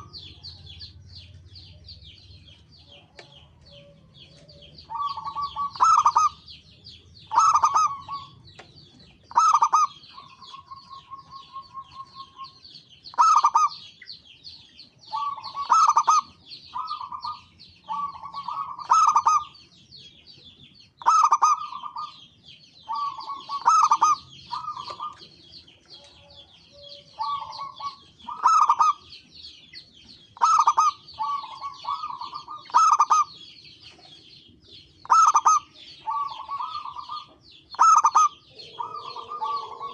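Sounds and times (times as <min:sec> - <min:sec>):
doves cooing: 0:00.0 - 0:13.9, 0:15.0 - 0:19.6, 0:21.0 - 0:29.2, 0:30.4 - 0:34.4, 0:35.0 - 0:39.9
high chirping: 0:00.0 - 0:39.9.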